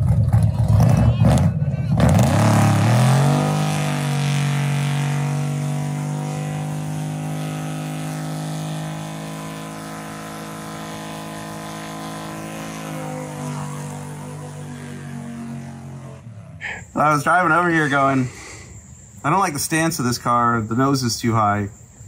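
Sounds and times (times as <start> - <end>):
tyres spinning in a burnout: 0.0 - 18.2
car engine revving: 0.0 - 18.4.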